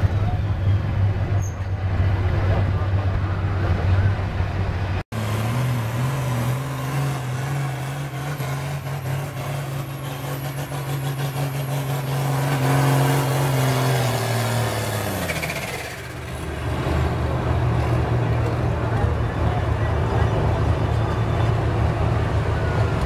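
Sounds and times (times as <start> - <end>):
tractor diesel engine under full load: 0.0 - 23.0.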